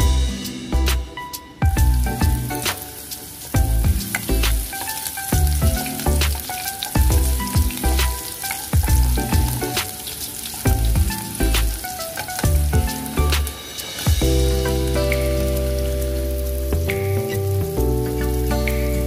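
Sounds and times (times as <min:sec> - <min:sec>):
background music with bass notes: 0:00.0 - 0:19.0
onion sizzling in hot oil: 0:00.0 - 0:19.0.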